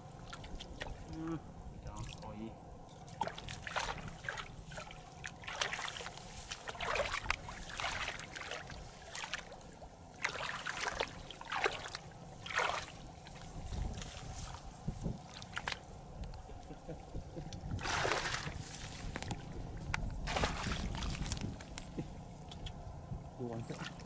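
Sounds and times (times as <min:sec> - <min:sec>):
muddy water splashing: 0:00.0 - 0:22.8, 0:23.4 - 0:24.0.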